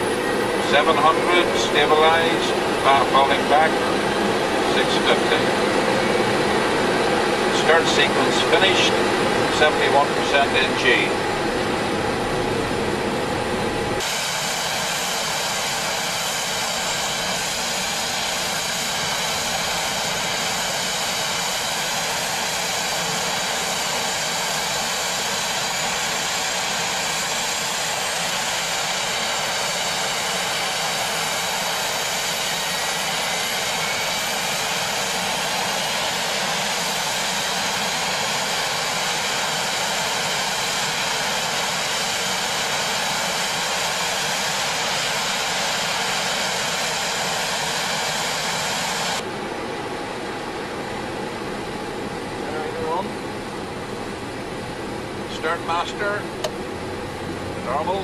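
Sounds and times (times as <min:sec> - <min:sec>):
turboprop engines idling: 0:00.0 - 0:58.0.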